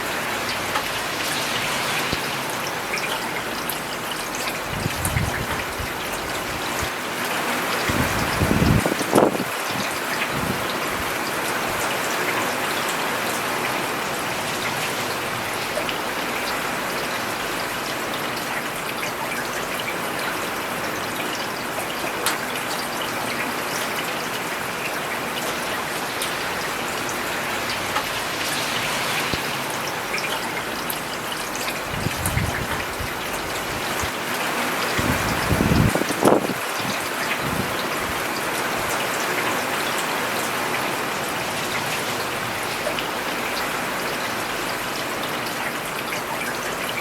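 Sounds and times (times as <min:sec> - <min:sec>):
rain falling on a road: 0:00.0 - 0:47.0.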